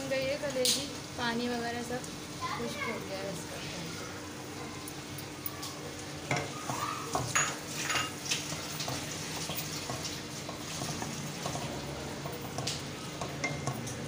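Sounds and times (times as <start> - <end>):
meat sizzling wetly in a pan: 0.0 - 14.0.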